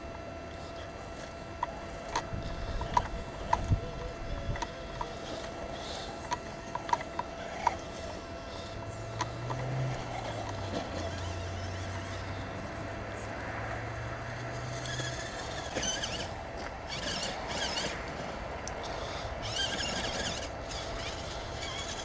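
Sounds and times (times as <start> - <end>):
faint electric whine: 0.0 - 22.0
low motor hum: 0.0 - 22.0.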